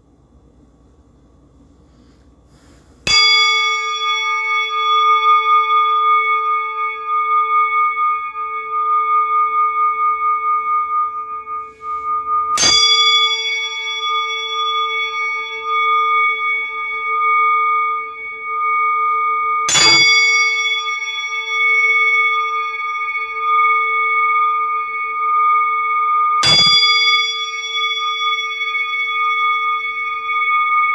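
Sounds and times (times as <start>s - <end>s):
singing bowl ringing: 1.9s - 30.9s
singing bowl strike: 1.9s - 30.9s.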